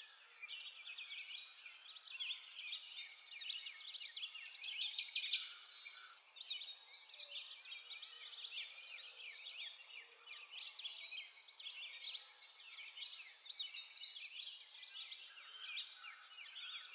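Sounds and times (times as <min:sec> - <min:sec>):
birds chirping and twittering: 0:00.0 - 0:16.9.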